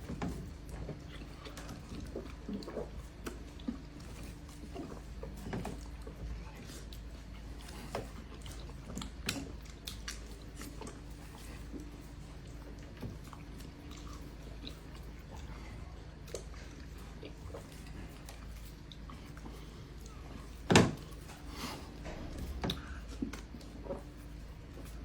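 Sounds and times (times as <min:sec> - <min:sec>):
steady low hum: 0:00.0 - 0:25.0
chewing and lip smacking: 0:00.1 - 0:25.0.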